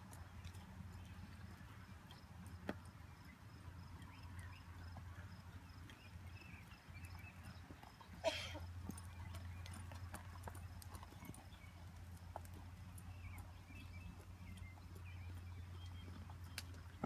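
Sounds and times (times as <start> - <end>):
horse hoofbeats on dirt: 0.0 - 17.0.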